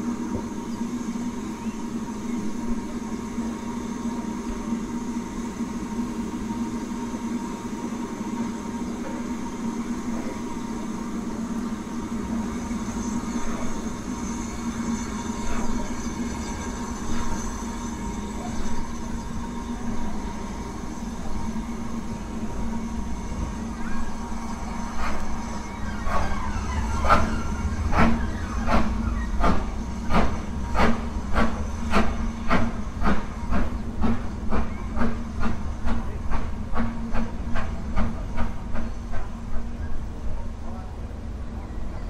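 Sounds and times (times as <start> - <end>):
steam hissing: 0.0 - 40.5
steam locomotive chuffing: 0.0 - 42.0.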